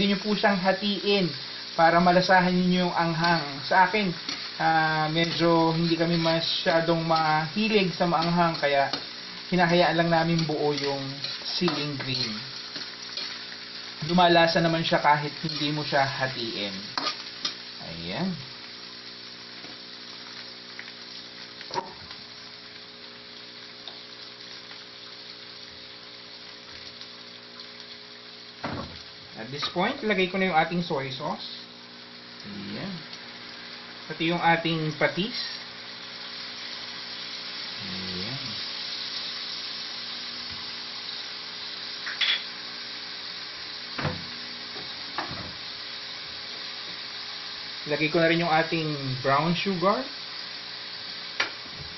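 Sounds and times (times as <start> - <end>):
vegetables sizzling in oil: 0.0 - 51.9.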